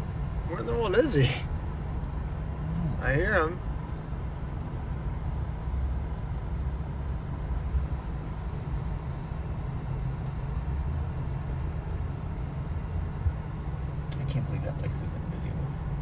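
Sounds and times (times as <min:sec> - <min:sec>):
distant propeller plane droning: 0:00.0 - 0:16.0.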